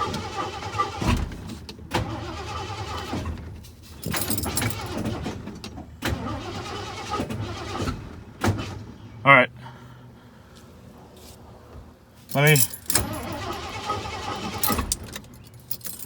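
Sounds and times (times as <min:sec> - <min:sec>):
truck engine cranking by starter: 0:00.0 - 0:09.2, 0:12.3 - 0:16.0.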